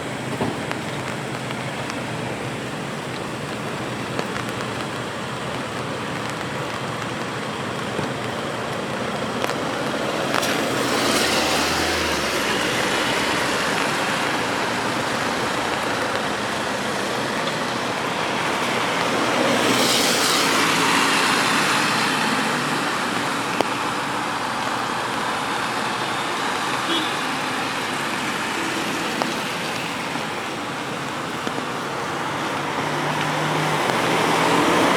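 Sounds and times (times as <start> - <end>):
car tyres swishing on wet road: 0.0 - 34.9
rain hissing: 0.0 - 34.9.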